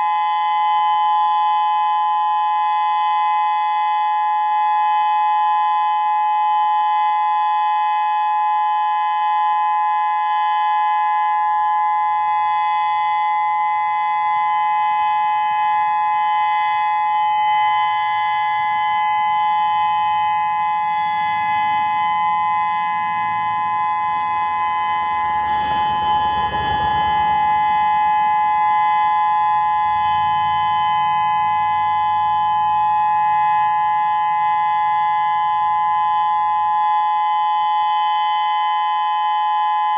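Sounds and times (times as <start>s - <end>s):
electronic warning siren steady tone: 0.0s - 39.9s.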